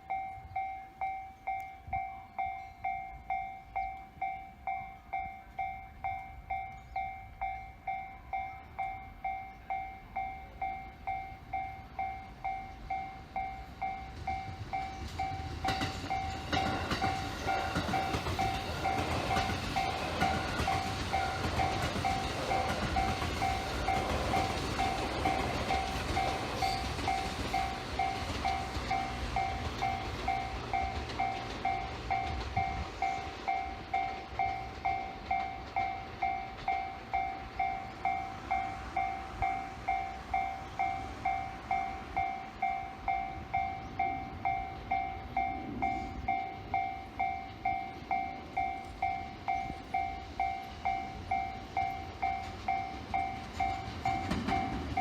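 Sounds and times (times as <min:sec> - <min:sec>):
level-crossing alarm clanging: 0:00.0 - 0:55.0
train rumbling past: 0:00.0 - 0:55.0.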